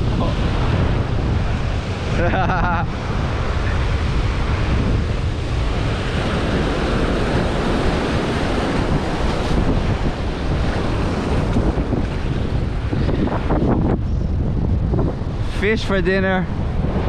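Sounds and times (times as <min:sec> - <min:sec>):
surf washing over rocks: 0:00.0 - 0:17.0
wind rumbling on microphone: 0:00.0 - 0:17.0.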